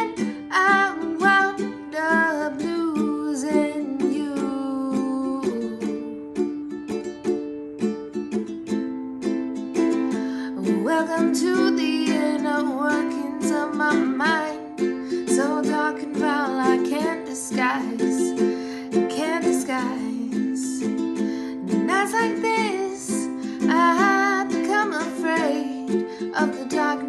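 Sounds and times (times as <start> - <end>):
woman singing: 0.0 - 6.9, 10.1 - 27.0
ukulele strumming: 0.0 - 27.0.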